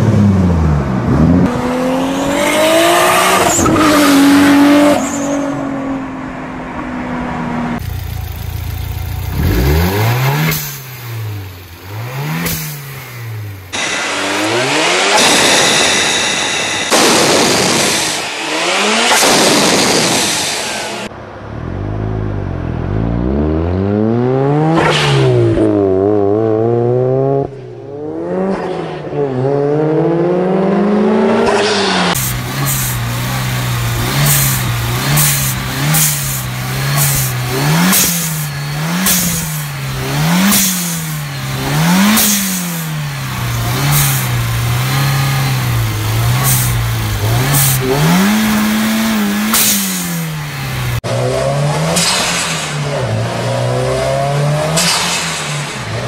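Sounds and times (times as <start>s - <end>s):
car engine revving: 0.0s - 6.2s, 7.2s - 56.0s.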